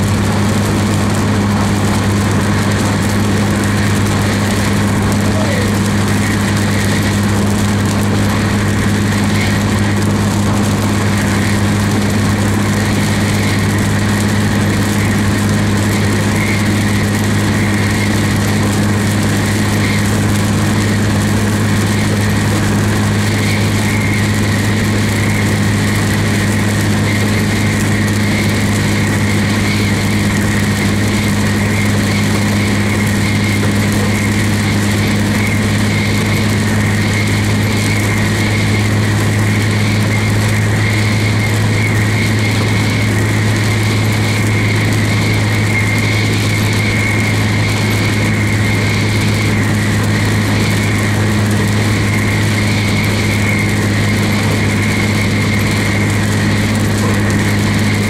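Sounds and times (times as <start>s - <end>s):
road and rain hiss: 0.0s - 58.0s
vehicle driving drone: 0.0s - 58.0s.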